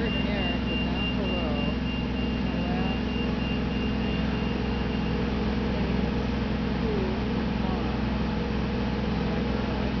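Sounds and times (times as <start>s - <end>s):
large engine humming: 0.0s - 10.0s.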